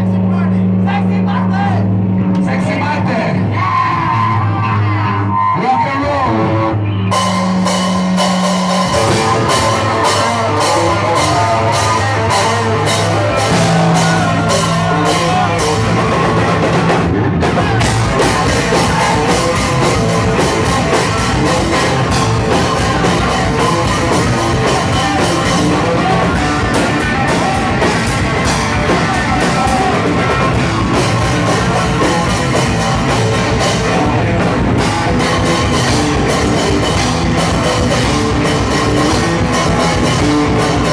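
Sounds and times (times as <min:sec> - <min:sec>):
punk band playing live: 0:00.0 - 0:40.9.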